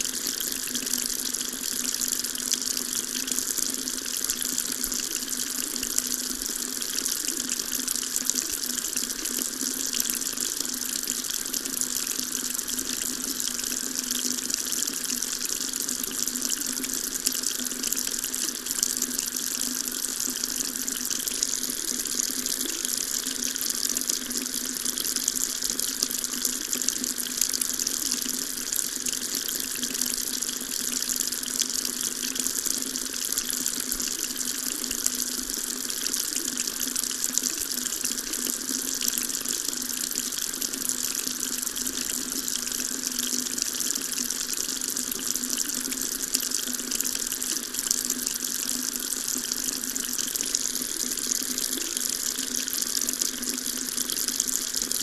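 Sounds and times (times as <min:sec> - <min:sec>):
water tap running into sink: 0:00.0 - 0:55.0.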